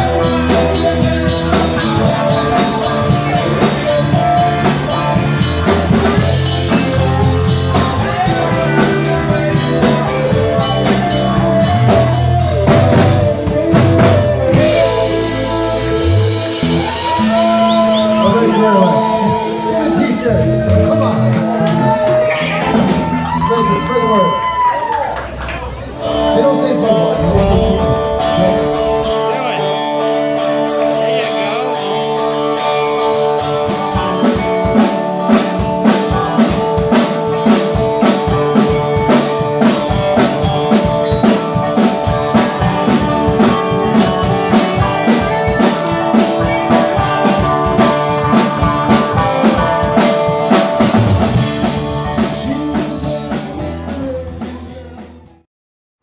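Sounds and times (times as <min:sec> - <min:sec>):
guitar chords: 0:00.0 - 0:22.9, 0:26.0 - 0:54.8
steady drum beat: 0:00.0 - 0:23.3, 0:27.0 - 0:55.2.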